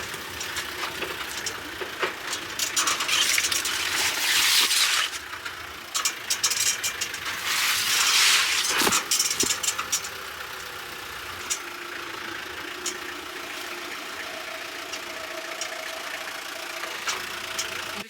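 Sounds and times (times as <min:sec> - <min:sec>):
sharp rattles and clicks: 0:00.0 - 0:18.0
vehicle engine hum: 0:00.0 - 0:18.0.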